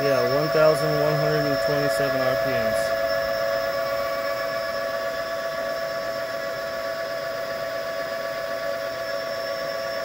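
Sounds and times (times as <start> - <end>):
electric motor whine: 0.0 - 10.0.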